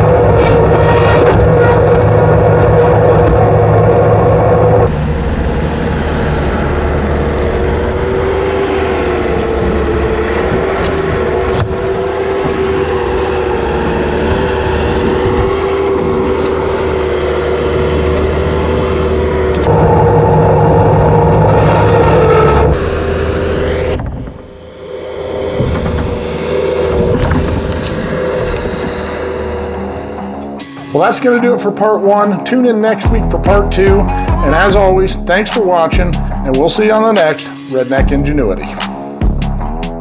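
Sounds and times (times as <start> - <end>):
hydraulic whine: 0.0 - 31.4, 33.1 - 40.0
engine running under load: 0.0 - 40.0.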